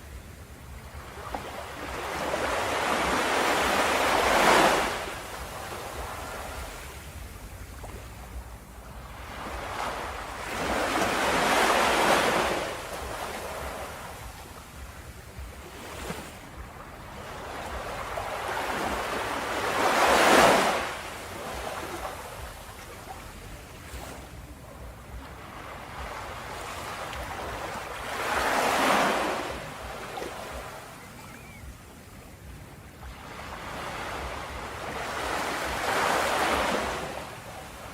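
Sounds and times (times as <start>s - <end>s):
low wash of water: 0.0s - 37.9s
waves breaking on beach: 0.0s - 37.9s.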